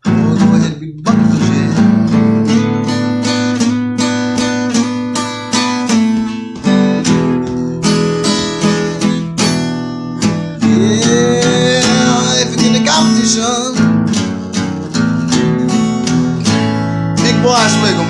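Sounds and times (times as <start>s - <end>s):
acoustic blues guitar: 0.0s - 18.0s.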